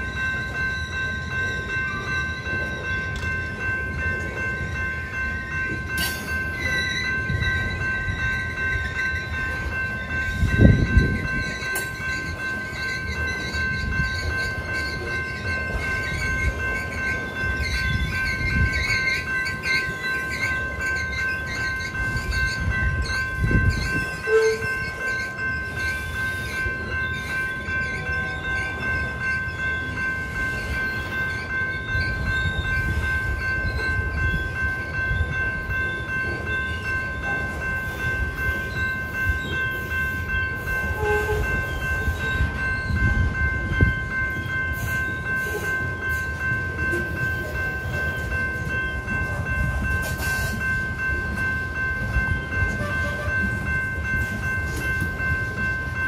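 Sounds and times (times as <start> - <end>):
crossing bell ringing: 0.0 - 56.0
train wheels rumbling on rails: 0.0 - 56.0.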